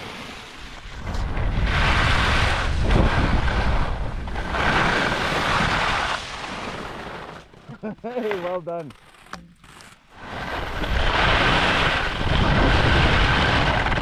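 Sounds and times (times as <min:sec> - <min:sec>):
wind rumbling on microphone: 0:00.0 - 0:07.5, 0:10.2 - 0:14.0
skis scraping on snow: 0:00.0 - 0:14.0.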